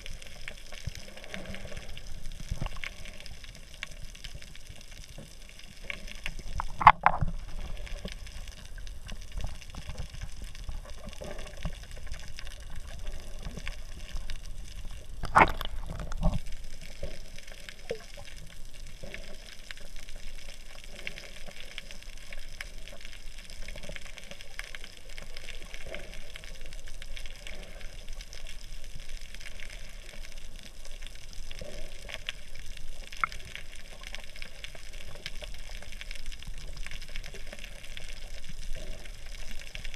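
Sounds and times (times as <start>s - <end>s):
muffled underwater water wash: 0.0s - 39.9s.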